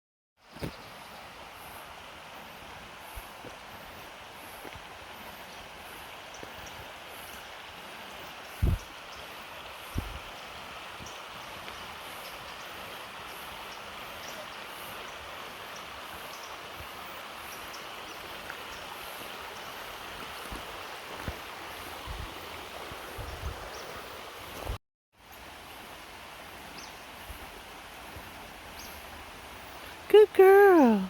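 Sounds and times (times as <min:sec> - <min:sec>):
creek and waterfall rushing: 0:00.4 - 0:31.0.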